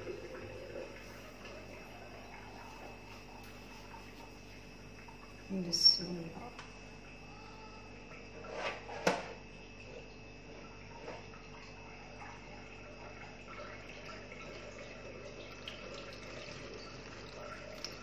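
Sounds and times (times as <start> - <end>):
liquid trickling and dripping: 0.0 - 7.2, 9.6 - 18.0.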